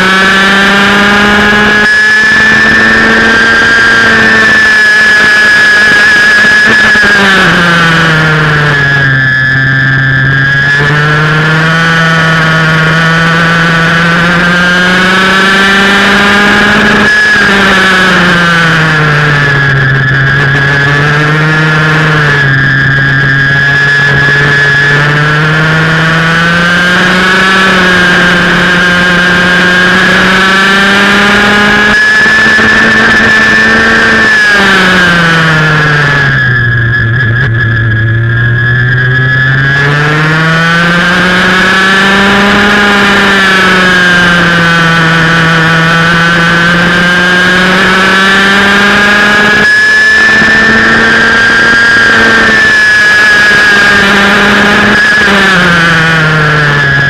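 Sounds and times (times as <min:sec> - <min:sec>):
go-kart engine at high revs: 0:00.0 - 0:57.0.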